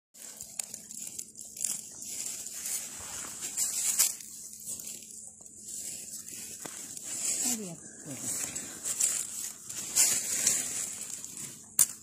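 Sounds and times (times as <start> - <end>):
footsteps crunching dry leaves: 0.2 - 12.0.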